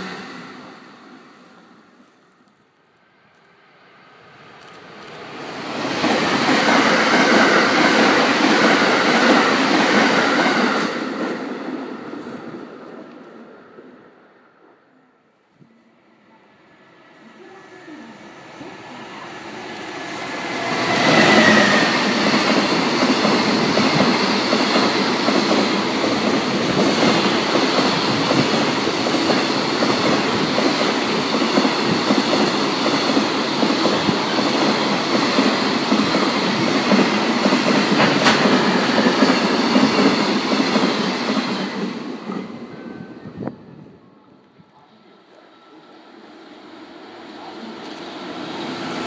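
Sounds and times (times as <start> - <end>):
freight train passing: 0.0 - 15.2, 15.8 - 49.0.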